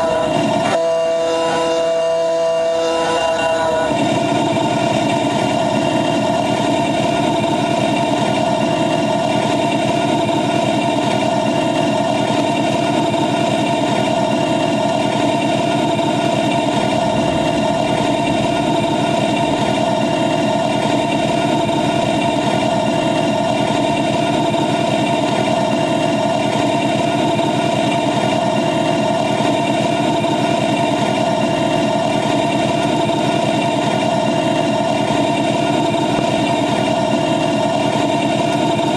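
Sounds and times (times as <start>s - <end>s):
miniature train engine drone: 0.0s - 38.9s.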